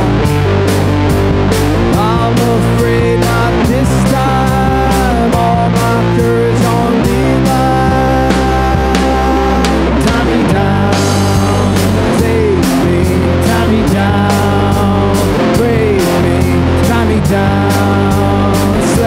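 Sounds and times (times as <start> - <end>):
bass guitar: 0.0 - 19.0
electric guitar: 0.0 - 19.0
steady drum beat: 0.0 - 19.0.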